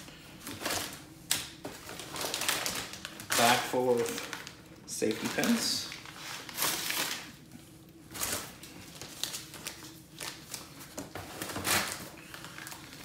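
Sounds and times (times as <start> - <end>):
paper and cardboard rustling: 0.0 - 7.4, 8.1 - 13.0.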